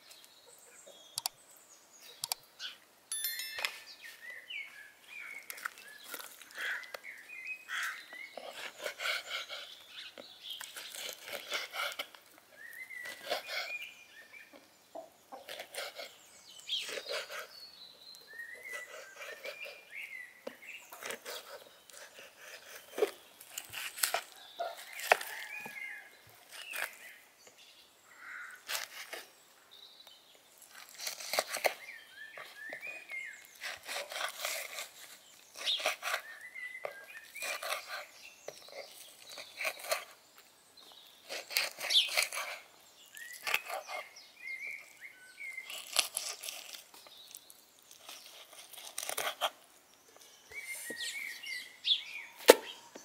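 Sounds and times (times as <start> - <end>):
birds calling: 0.0 - 53.0.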